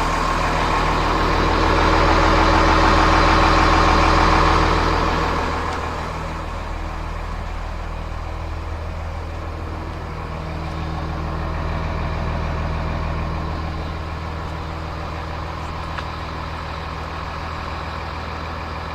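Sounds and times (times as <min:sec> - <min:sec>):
diesel bus engine idling: 0:00.0 - 0:18.9.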